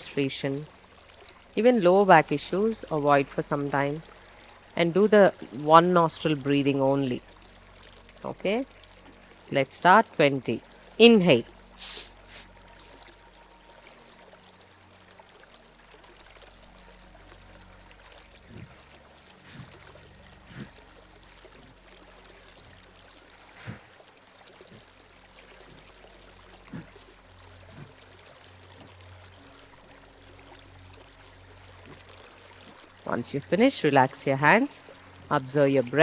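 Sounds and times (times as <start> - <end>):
small stream flowing: 0.0 - 36.0.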